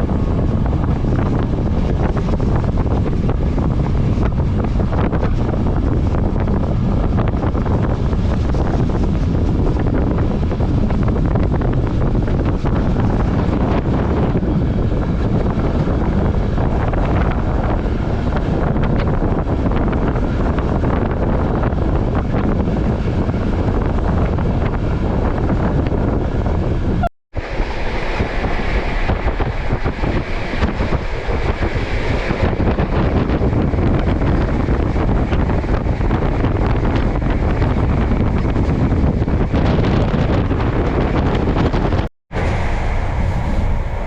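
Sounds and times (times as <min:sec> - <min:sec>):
train wheels rumbling on rails: 0:00.0 - 0:44.0
wind rushing over microphone: 0:00.0 - 0:44.0.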